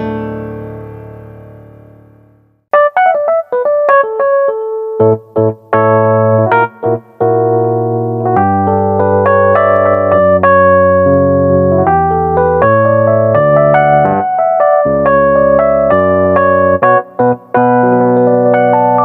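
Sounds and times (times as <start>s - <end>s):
synthesizer piano notes and chords: 0.0s - 19.0s.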